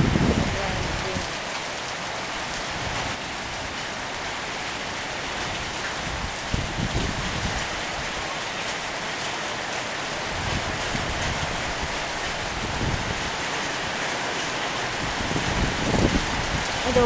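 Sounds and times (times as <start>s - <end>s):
wind buffeting microphone: 0.0s - 1.6s, 2.2s - 9.0s, 10.1s - 17.0s
rain falling: 0.0s - 17.0s.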